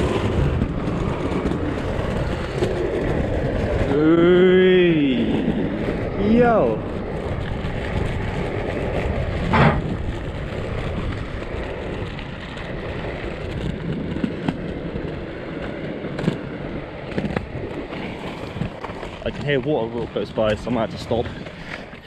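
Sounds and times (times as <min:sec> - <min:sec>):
inline skates rolling on pavement: 0:00.0 - 0:22.0.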